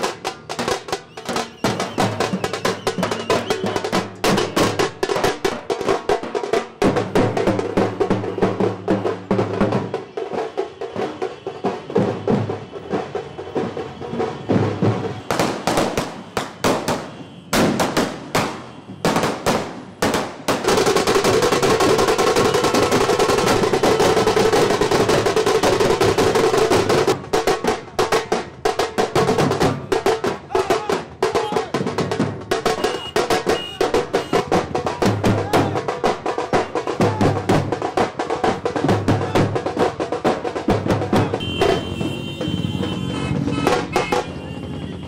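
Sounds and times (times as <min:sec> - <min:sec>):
drum roll: 0:00.0 - 0:45.0
drum strokes: 0:00.0 - 0:45.0.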